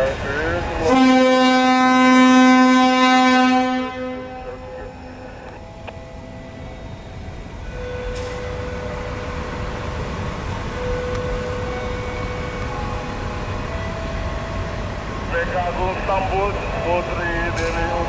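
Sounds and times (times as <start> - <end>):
train low rumble: 0.0 - 18.0
high whine: 2.7 - 18.0.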